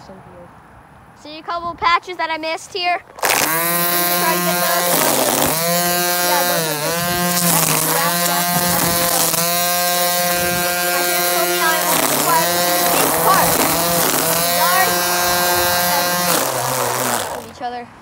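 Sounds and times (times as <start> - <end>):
string trimmer buzzing: 3.0 - 17.6.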